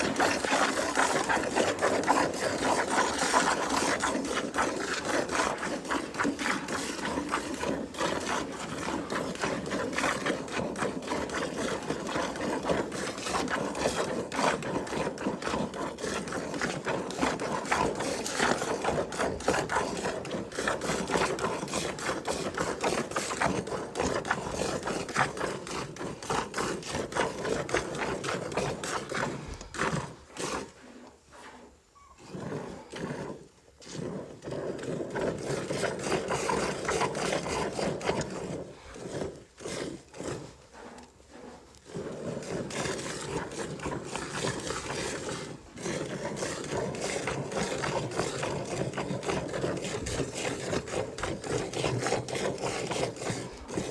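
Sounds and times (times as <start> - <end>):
cow being milked: 0.0 - 53.9.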